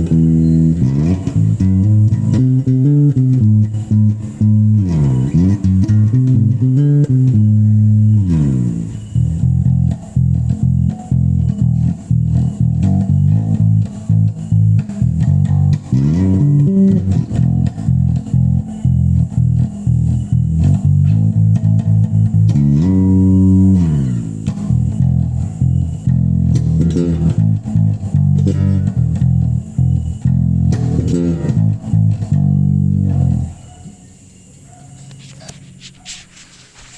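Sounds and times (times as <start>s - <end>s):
bass guitar sliding notes: 0.0s - 34.6s.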